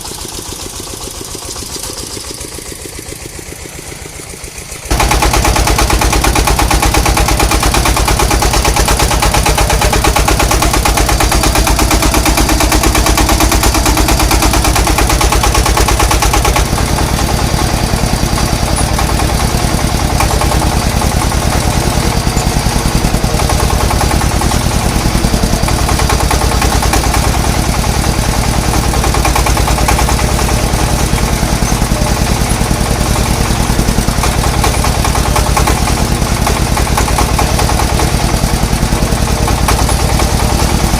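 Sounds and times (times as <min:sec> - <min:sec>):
engine chugging: 0:00.0 - 0:40.9.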